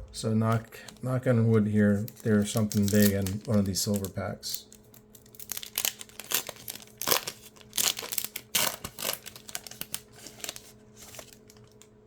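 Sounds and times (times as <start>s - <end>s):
plastic wrapper tearing and crinkling: 1.6s - 11.9s.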